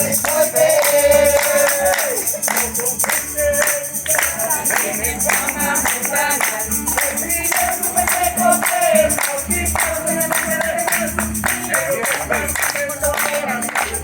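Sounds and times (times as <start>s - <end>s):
group singing a hymn: 0.0s - 14.0s
tambourines shaken to a beat: 0.0s - 14.0s.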